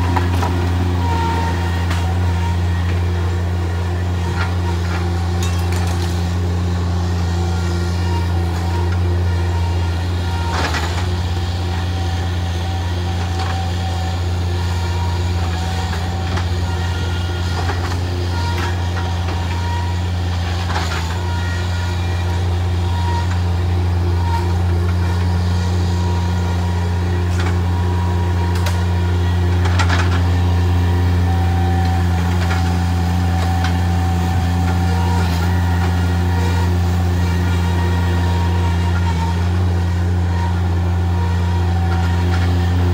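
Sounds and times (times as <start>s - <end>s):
loader engine running: 0.0s - 42.9s.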